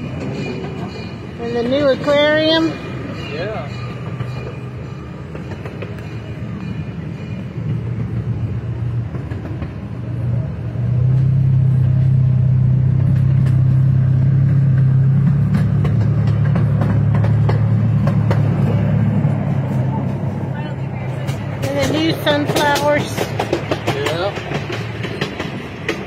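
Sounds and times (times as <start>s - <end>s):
train engine drone: 0.0s - 26.0s
train wheels rumbling: 0.0s - 26.0s.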